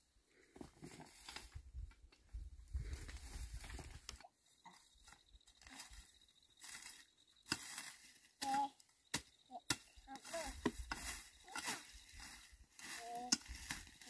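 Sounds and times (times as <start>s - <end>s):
dry grass rustling and crunching: 0.4s - 14.0s.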